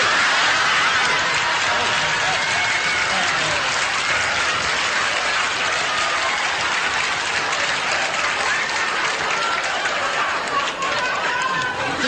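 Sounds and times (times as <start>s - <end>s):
studio audience applauding: 0.0s - 12.0s.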